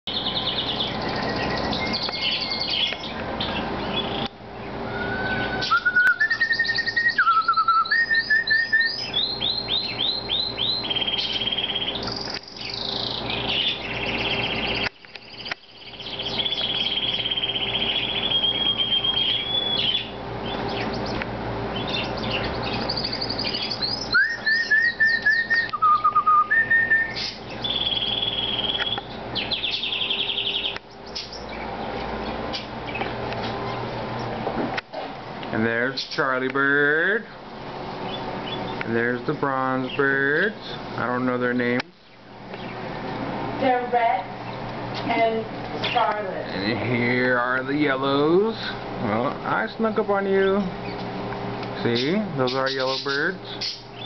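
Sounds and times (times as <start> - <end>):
caged birds chirping and singing: 0.0 - 54.0
faint steady hum: 0.1 - 54.0.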